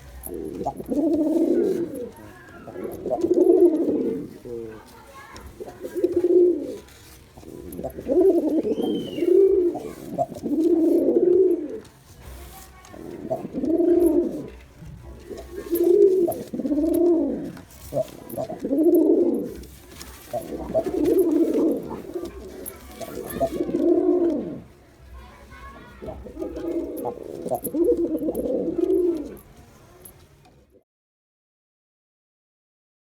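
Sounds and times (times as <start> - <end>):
pigeon cooing: 0.0 - 11.9, 12.9 - 24.7, 26.0 - 29.4.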